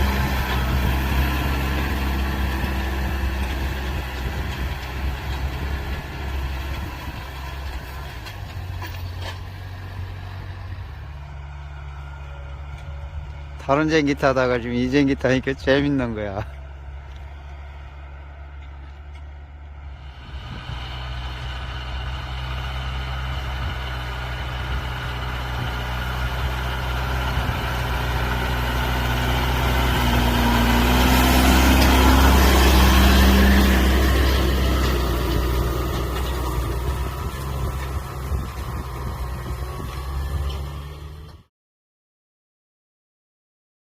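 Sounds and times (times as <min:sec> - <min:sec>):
tractor diesel engine under load: 0:00.0 - 0:41.5.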